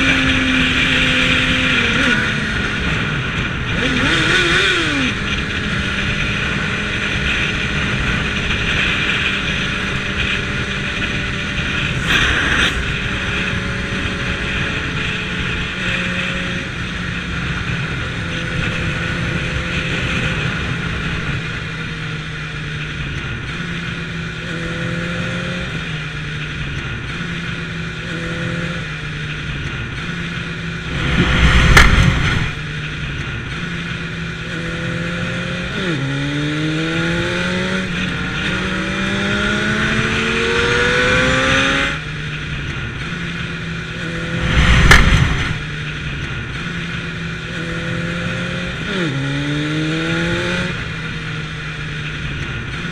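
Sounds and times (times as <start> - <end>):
wind noise: 0.0 - 25.8, 29.5 - 52.9
motorcycle engine running: 0.0 - 52.9.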